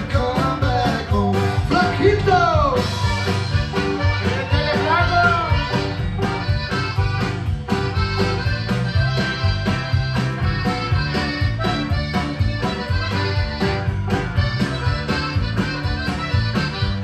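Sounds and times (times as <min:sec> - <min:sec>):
bass and guitar dance beat: 0:00.0 - 0:17.0
button accordion melody: 0:00.0 - 0:17.0.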